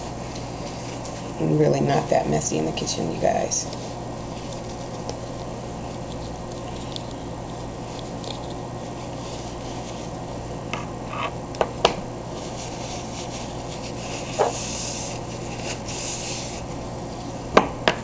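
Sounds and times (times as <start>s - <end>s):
paper towel rustling: 0.0s - 10.6s, 12.3s - 17.4s.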